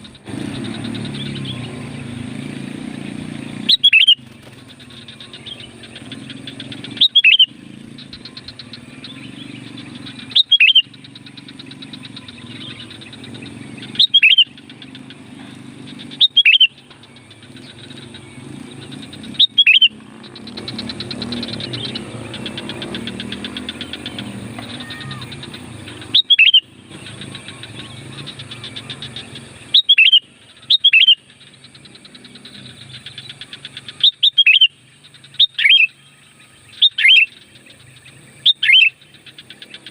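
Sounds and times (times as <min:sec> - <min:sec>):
bird whistled call: 0:03.4 - 0:39.9.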